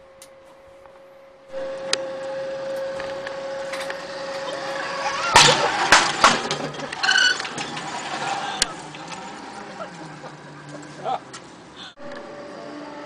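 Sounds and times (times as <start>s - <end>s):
zip line trolley rushing on cable: 1.6s - 13.0s.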